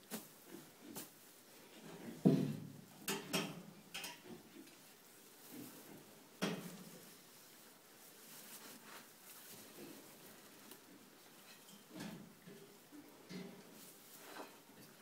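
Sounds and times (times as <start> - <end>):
knocks and rustles in straw: 0.0 - 2.6, 4.3 - 12.5, 13.3 - 15.0.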